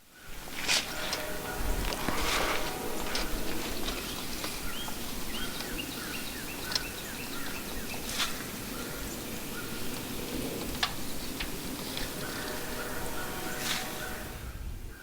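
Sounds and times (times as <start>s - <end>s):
birds chirping: 0.0s - 15.0s
outdoor background noise: 0.0s - 15.0s.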